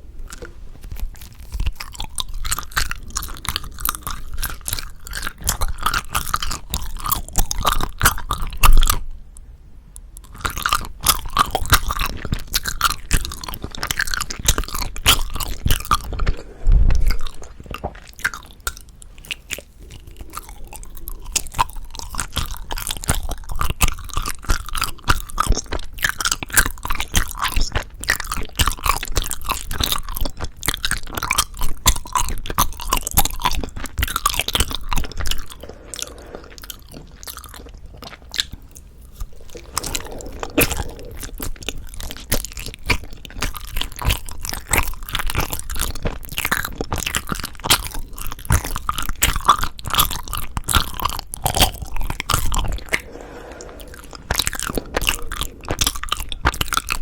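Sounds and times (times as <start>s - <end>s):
wet sticky chewing sounds: 0.2s - 9.1s, 10.2s - 57.0s.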